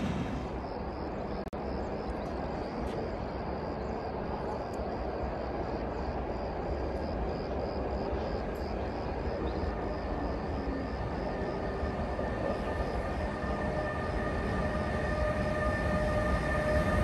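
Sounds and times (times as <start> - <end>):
electric locomotive rumble and hum: 0.0 - 17.0.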